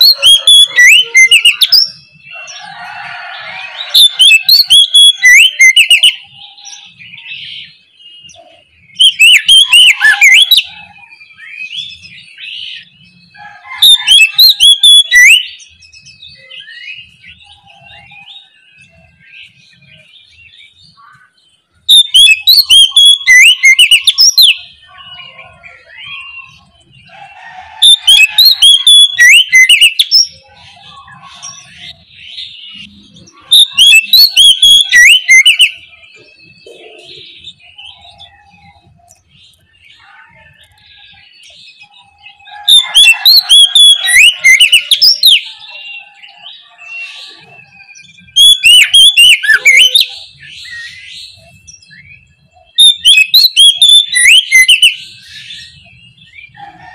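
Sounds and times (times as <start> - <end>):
bird song whistles and trills: 0.0 - 56.9.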